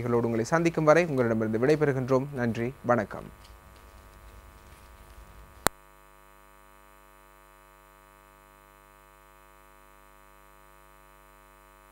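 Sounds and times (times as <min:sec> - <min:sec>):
faint electrical hum and buzz: 0:00.0 - 0:11.9.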